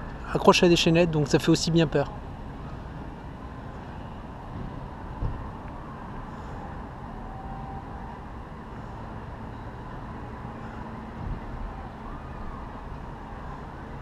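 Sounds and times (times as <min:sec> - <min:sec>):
distant traffic: 0:00.0 - 0:14.0.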